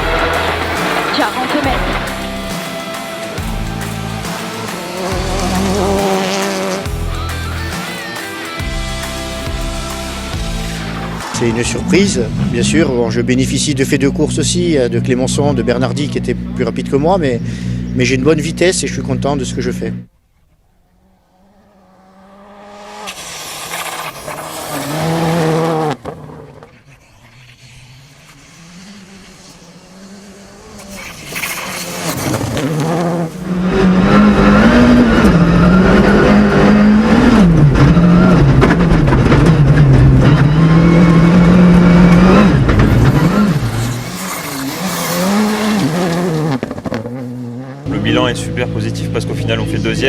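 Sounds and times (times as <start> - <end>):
rally car engines revving: 0.0 - 20.1, 20.8 - 50.0.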